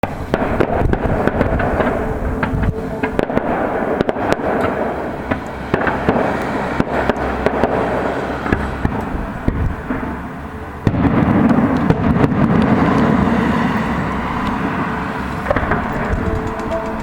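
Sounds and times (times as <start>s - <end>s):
dense rumble: 0.0s - 17.0s
fireworks bangs and crackles: 0.0s - 17.0s.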